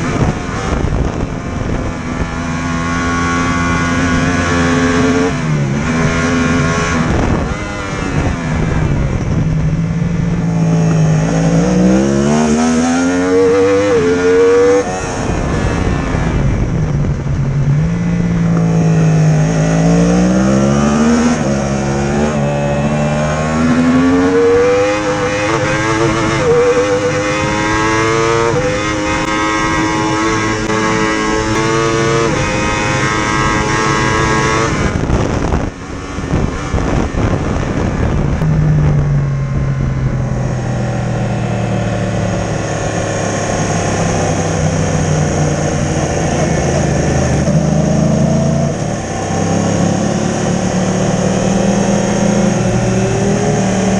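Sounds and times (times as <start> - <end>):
racing motorcycle engine accelerating: 0.0 - 53.9.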